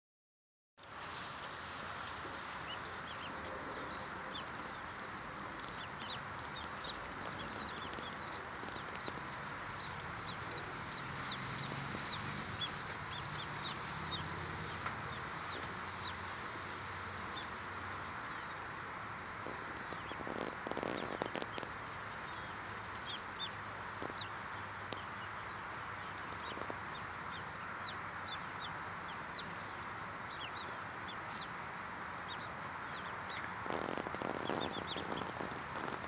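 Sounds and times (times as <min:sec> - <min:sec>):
ducklings peeping: 0:00.9 - 0:36.0.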